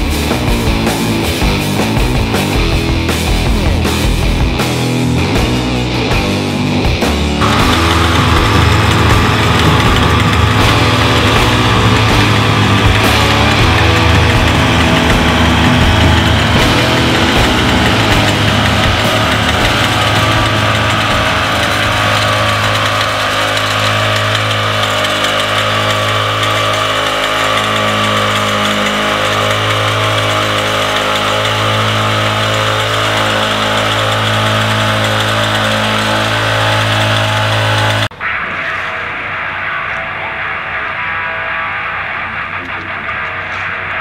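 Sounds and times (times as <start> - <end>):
engine running steadily: 0.0 - 38.8.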